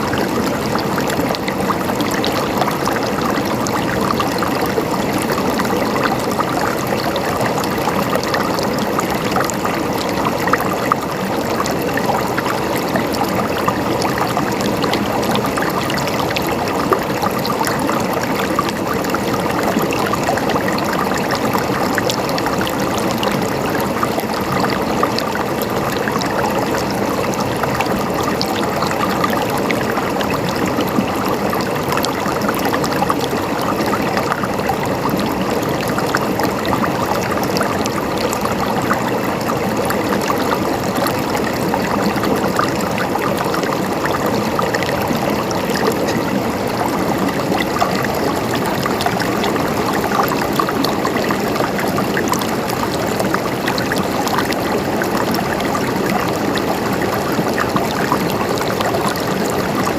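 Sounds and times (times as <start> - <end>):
running water gurgling: 0.0 - 59.9.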